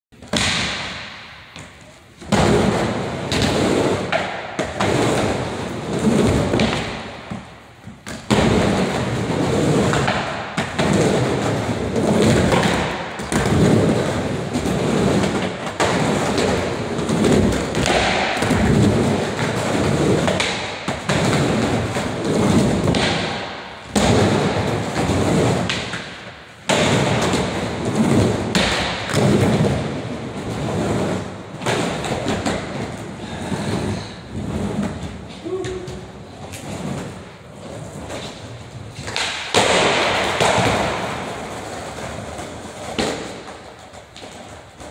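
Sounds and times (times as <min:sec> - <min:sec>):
skateboard wheels rolling on ramp: 0:00.4 - 0:44.9
skateboard thudding on ramp: 0:02.2 - 0:33.0, 0:39.0 - 0:44.9.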